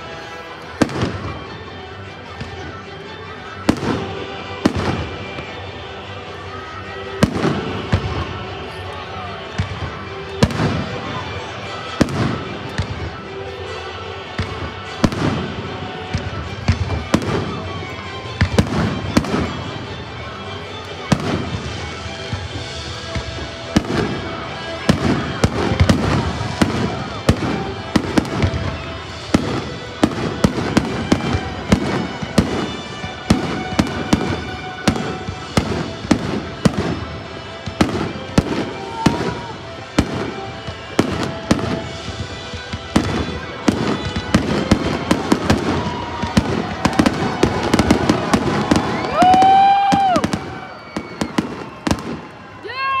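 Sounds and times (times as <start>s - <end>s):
fireworks bursting: 0.0s - 53.0s
music playing: 0.0s - 53.0s.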